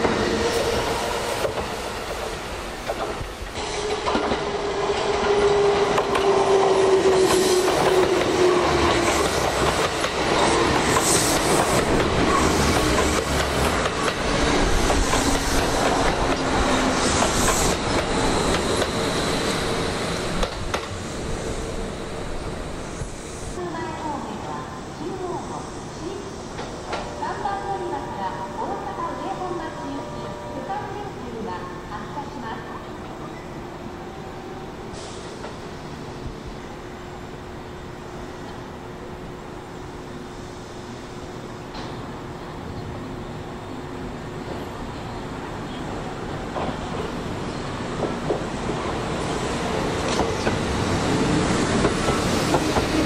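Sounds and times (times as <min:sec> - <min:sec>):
electric train rumble: 0:00.0 - 0:32.1, 0:34.0 - 0:53.0.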